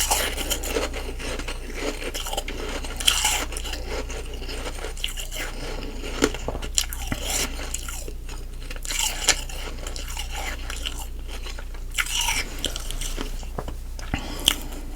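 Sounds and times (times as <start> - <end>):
ice being chewed: 0.0 - 14.9.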